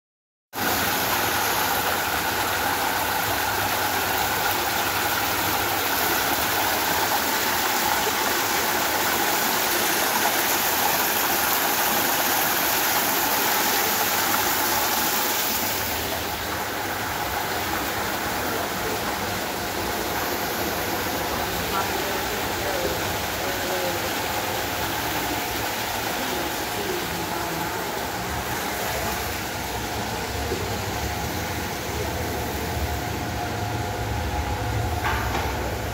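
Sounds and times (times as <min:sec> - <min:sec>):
water cascading down rock waterfall: 0:00.6 - 0:31.3.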